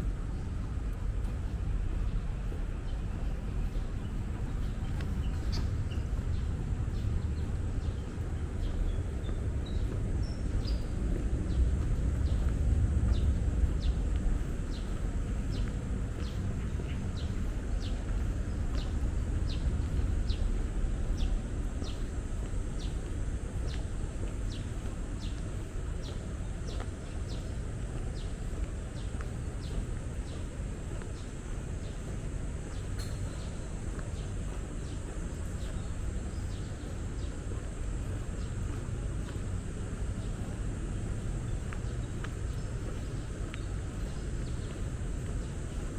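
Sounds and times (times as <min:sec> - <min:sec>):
distant city traffic rumble: 0:00.0 - 0:45.9.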